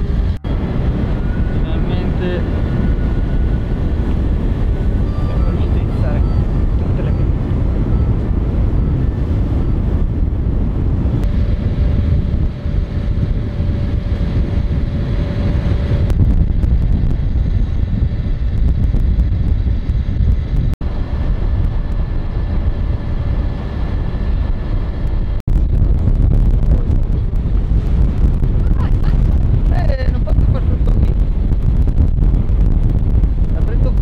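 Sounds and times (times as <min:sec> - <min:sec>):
wind rumbling on microphone: 0:00.0 - 0:34.0.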